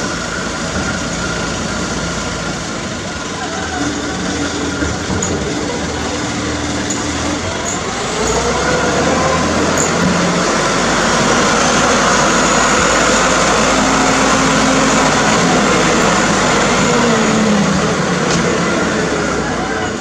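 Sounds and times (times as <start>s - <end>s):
mechanical and rolling noise: 0.0s - 20.0s
truck diesel engine running: 0.0s - 20.0s.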